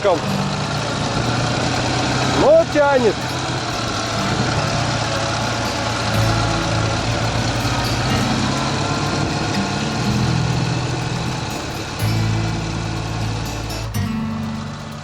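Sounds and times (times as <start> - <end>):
motorcycle engine under load: 0.0 - 15.0
road hiss: 0.0 - 15.0
wind: 0.0 - 15.0.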